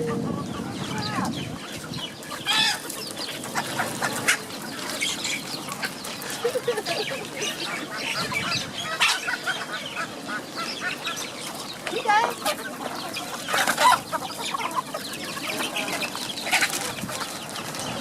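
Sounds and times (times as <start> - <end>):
chicken squawks: 0.0 - 17.3
chickens clucking: 0.0 - 18.0.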